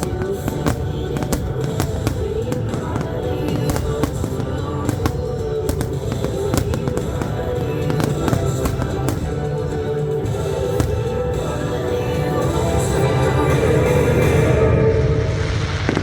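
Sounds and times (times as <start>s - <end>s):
fireworks cracking: 0.0s - 16.0s
loud recorded music: 0.0s - 16.0s.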